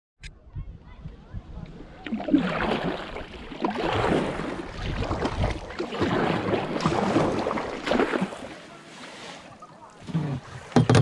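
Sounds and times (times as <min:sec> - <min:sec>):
water splashing around kayak paddle: 0:01.7 - 0:11.0.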